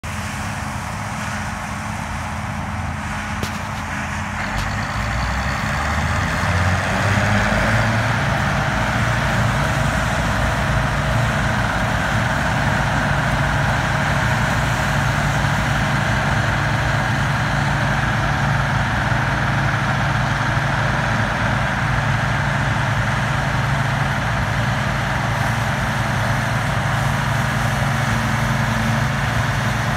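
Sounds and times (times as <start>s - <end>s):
diesel engine revving up: 1.7s - 29.9s.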